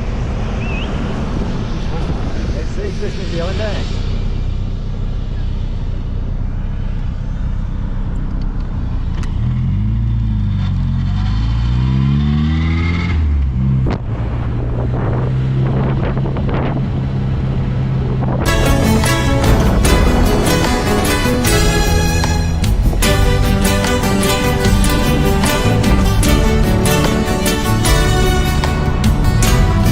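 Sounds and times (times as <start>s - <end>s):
car engine while driving: 3.2s - 29.9s.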